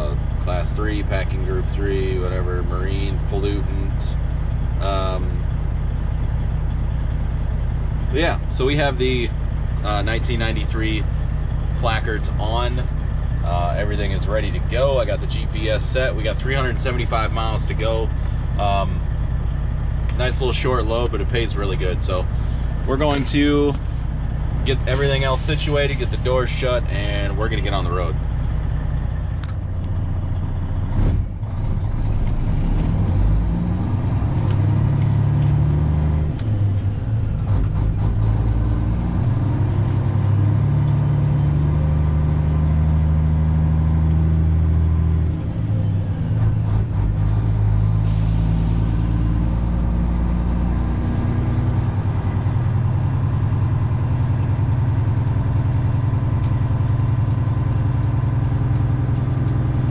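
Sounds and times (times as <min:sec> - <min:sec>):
truck diesel engine shifting gears: 0:00.0 - 0:59.9.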